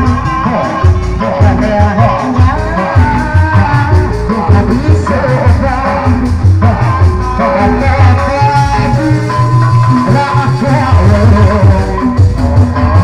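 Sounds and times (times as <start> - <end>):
drums beating: 0.0 - 13.0
person singing: 0.0 - 13.0
sliding pitch melody: 0.0 - 13.0.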